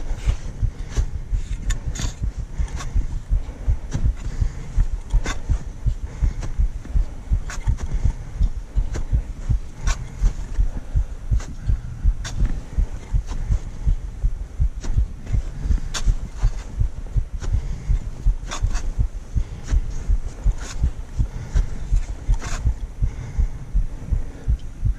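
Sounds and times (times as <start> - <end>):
footsteps on snow and ice: 0.0 - 23.6.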